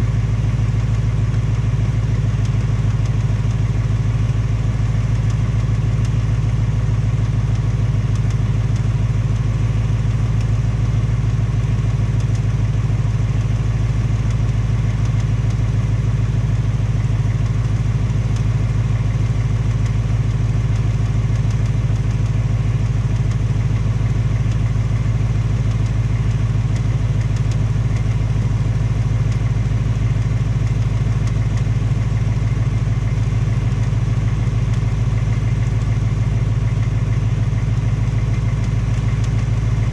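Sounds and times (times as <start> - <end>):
car engine idling with ticking: 0.0 - 39.9.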